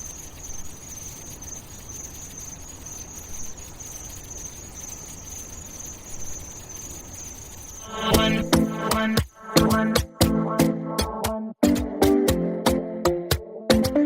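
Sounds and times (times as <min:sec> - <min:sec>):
high-pitched pulsing trill: 0:00.0 - 0:12.2.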